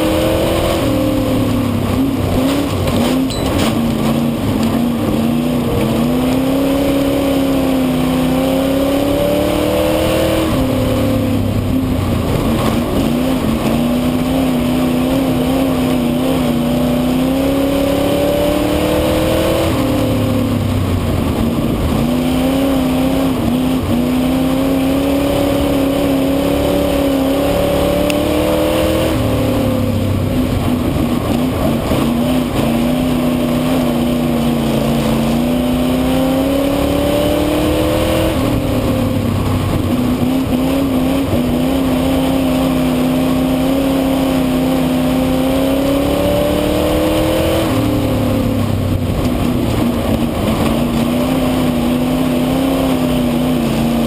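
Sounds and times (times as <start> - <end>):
car engine racing: 0.0 - 54.0.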